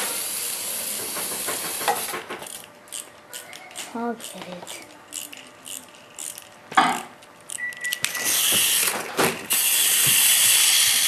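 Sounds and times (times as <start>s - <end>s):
wind-up toy clockwork buzzing: 0.0s - 6.5s, 7.5s - 11.0s.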